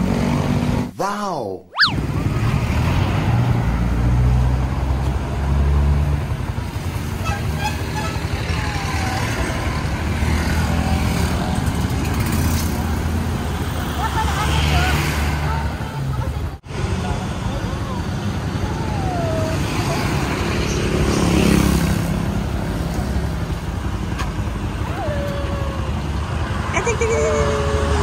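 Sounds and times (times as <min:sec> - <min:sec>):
passing vehicle engines rumbling: 0:01.8 - 0:28.0.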